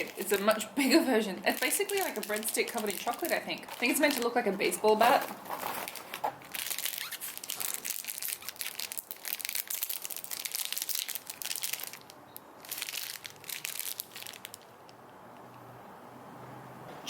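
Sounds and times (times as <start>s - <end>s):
plastic snack wrapper crinkling: 0.0s - 15.0s.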